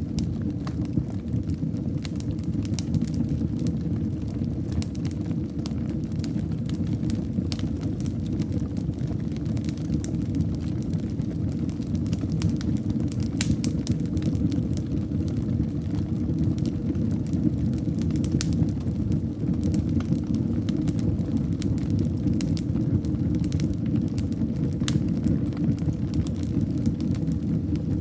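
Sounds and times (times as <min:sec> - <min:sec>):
fire crackles and pops: 0:00.0 - 0:28.0
low rumble of fire flames: 0:00.0 - 0:28.0.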